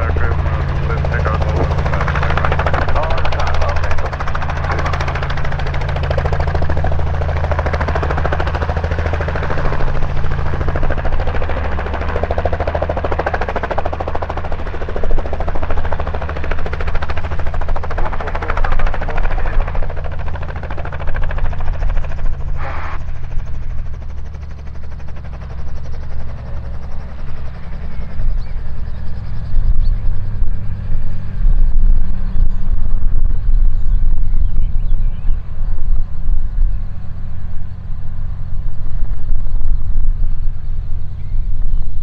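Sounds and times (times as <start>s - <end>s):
helicopter engine drone: 0.0s - 42.0s
helicopter rotor chop: 0.0s - 42.0s.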